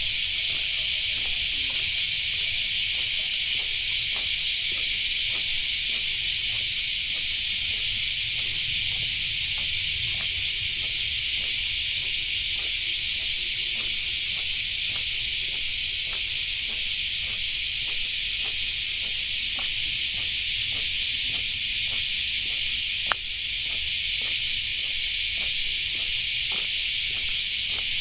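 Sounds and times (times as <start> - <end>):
faint footsteps: 0.0 - 28.0
insects chorus: 0.0 - 28.0.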